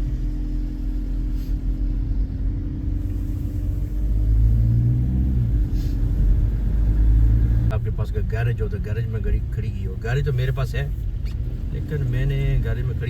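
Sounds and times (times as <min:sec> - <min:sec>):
car engine running: 0:00.0 - 0:13.0
low road rumble: 0:00.0 - 0:13.0.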